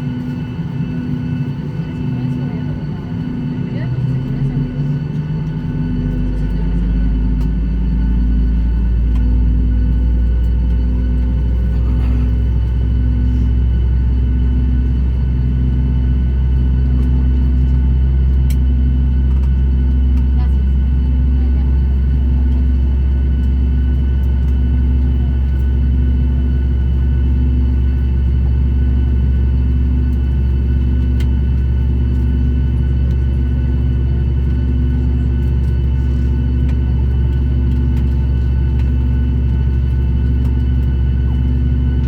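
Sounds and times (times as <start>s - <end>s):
jet engine rumbling: 0.0s - 42.0s
jet engine whine: 0.0s - 42.0s.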